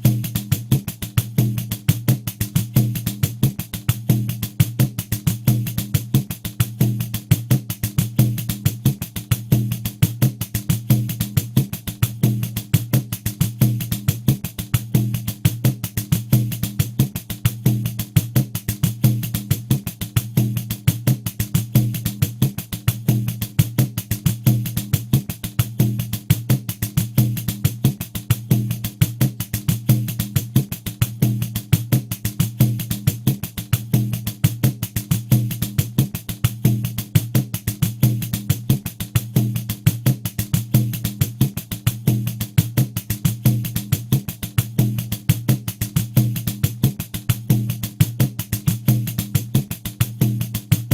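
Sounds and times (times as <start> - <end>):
hand drum with jingles playing: 0.0 - 50.9.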